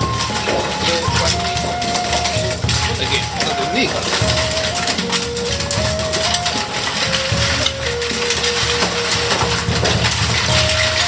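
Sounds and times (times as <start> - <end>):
background music with held notes: 0.0 - 11.0
oyster shells clattering: 0.0 - 11.0.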